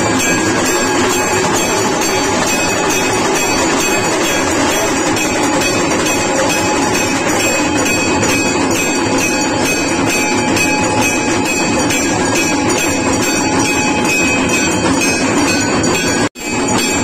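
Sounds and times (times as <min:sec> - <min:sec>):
dense metallic clanging: 0:00.0 - 0:17.0
temple bell ringing: 0:00.0 - 0:17.0.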